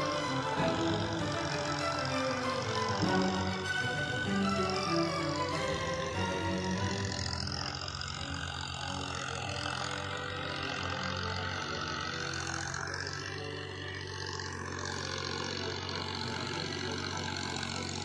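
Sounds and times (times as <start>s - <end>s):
distant tractor diesel engine: 0.0s - 18.0s.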